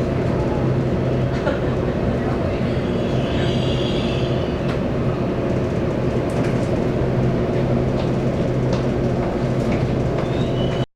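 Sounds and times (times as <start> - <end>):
train interior low hum: 0.0 - 10.9.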